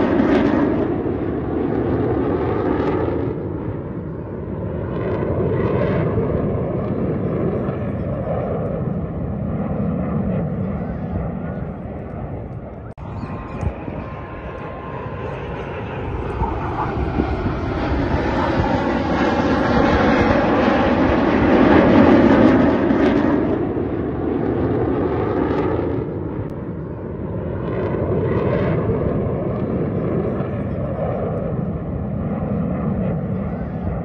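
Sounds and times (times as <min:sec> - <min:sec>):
military jet flying overhead: 0:00.0 - 0:34.0.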